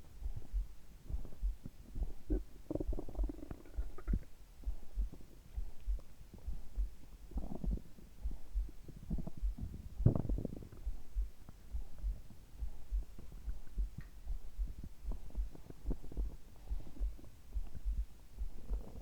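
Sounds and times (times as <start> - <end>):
heartbeat thumps: 0.0 - 19.0
stomach gurgles: 0.3 - 19.0.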